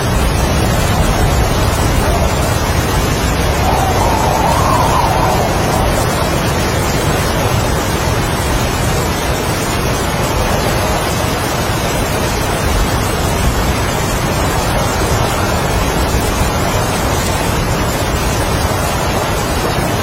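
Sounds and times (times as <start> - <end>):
heavy rain: 0.0 - 20.0
strong wind gusting: 0.0 - 20.0.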